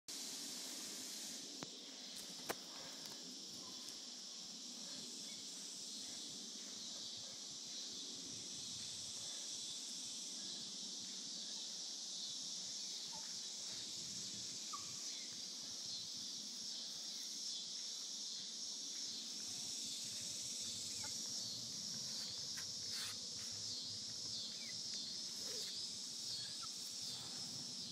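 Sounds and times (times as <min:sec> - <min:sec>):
insect chorus: 0:00.1 - 0:27.9.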